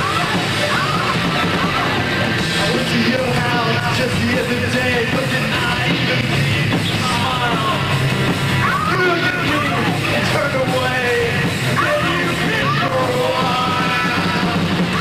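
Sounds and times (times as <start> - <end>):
bending lead guitar line: 0.0 - 15.0
punk rock band playing: 0.0 - 15.0.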